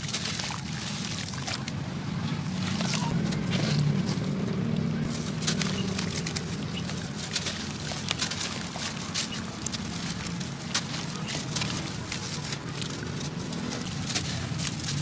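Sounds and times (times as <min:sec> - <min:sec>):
sand and cement crumbling: 0:00.0 - 0:01.7, 0:02.4 - 0:15.0.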